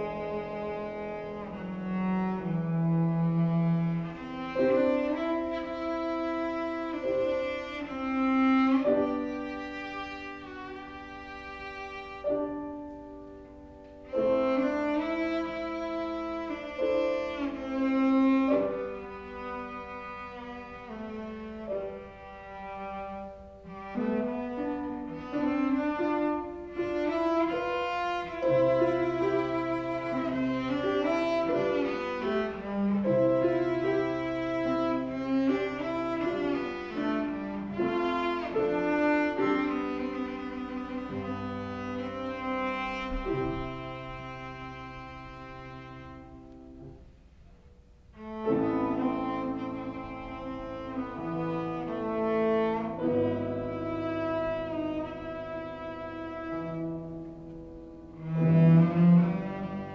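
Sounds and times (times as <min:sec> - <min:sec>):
cello and piano playing: 0:00.0 - 0:59.9.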